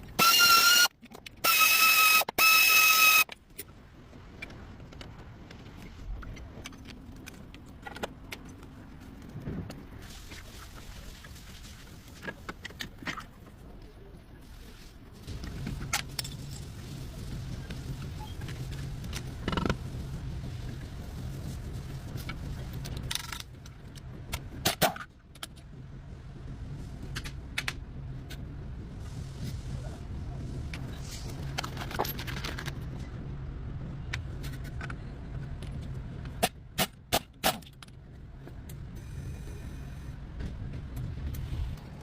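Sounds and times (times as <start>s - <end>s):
steady low hum: 3.2s - 42.0s.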